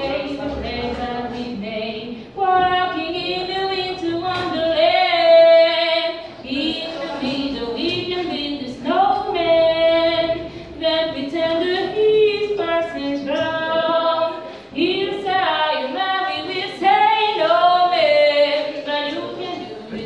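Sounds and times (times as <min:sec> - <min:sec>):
woman singing unaccompanied: 0:00.0 - 0:20.0.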